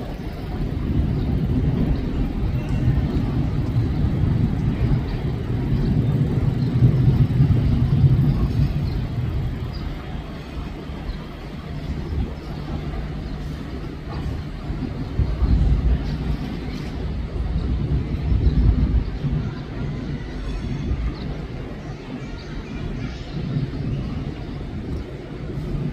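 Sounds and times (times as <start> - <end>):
diesel railcar engine rumble: 0.0 - 25.9.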